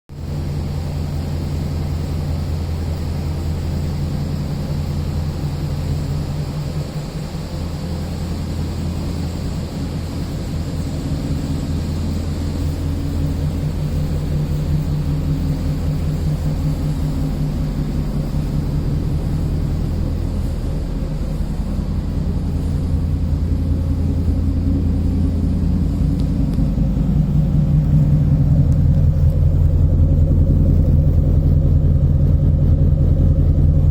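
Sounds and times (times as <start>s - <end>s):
car engine exhaust rumble: 0.1s - 33.9s.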